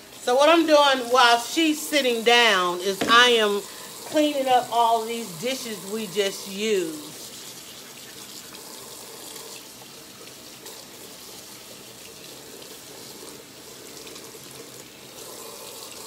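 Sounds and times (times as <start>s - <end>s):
dishes being rinsed: 0.0s - 16.0s
faucet running into sink: 0.0s - 16.0s.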